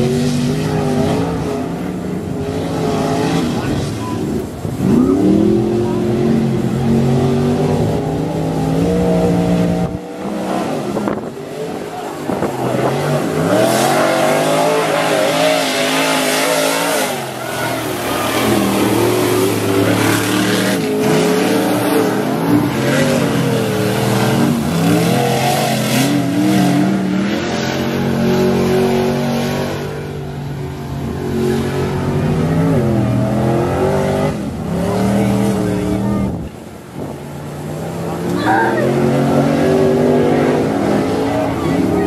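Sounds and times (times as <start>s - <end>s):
truck engine revving: 0.0s - 42.0s.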